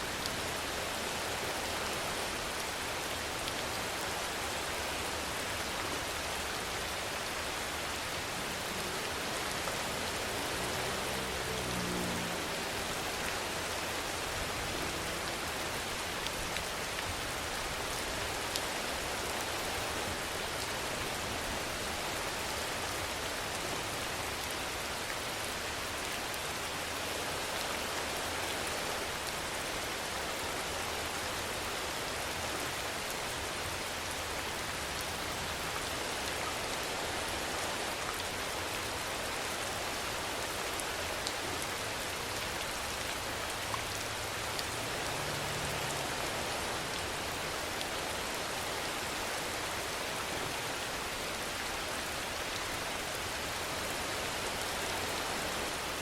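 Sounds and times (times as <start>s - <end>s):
rain on surfaces: 0.0s - 56.0s.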